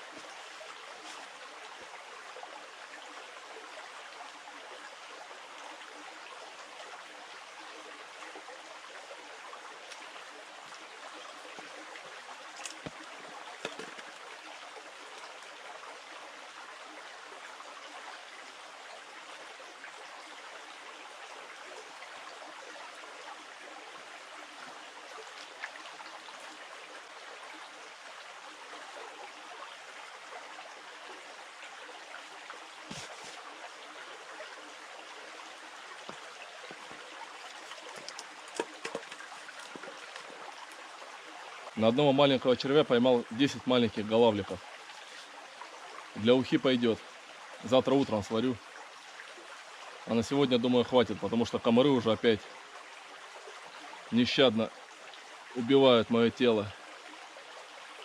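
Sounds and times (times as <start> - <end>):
river water rushing: 0.0 - 50.8.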